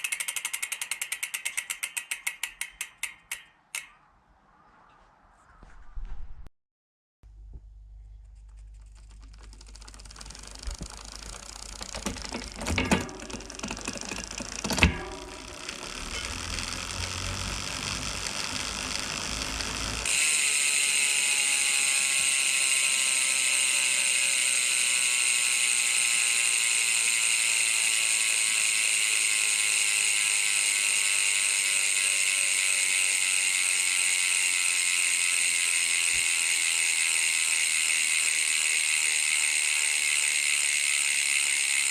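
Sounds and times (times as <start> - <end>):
bicycle hub freewheel buzzing: 0.0 - 4.0, 8.4 - 41.9.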